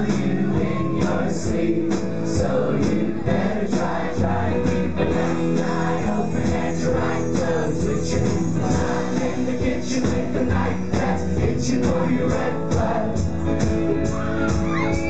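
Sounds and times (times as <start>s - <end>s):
bass guitar: 0.0s - 15.0s
drums keeping a steady beat: 0.0s - 15.0s
electric guitar: 0.0s - 15.0s
keyboard: 0.0s - 15.0s
voices singing: 0.0s - 15.0s.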